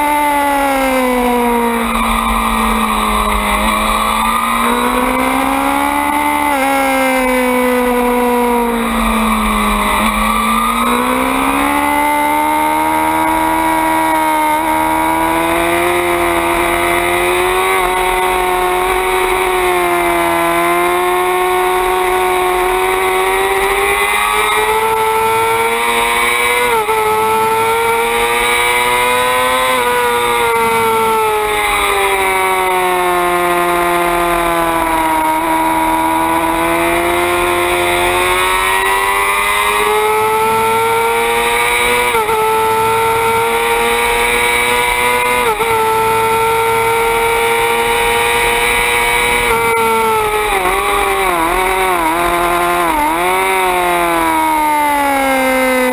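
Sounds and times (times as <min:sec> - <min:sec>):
motorcycle engine racing: 0:00.0 - 0:55.9.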